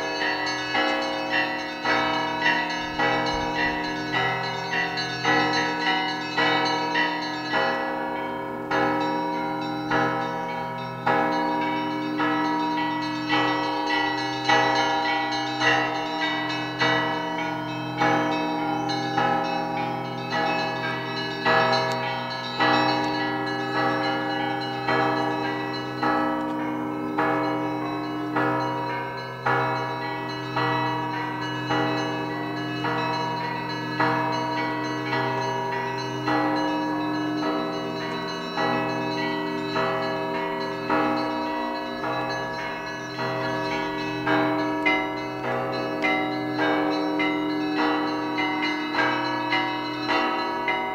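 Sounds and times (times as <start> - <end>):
large bell low hum: 0.0 - 50.9
small church bells ringing: 0.0 - 50.9.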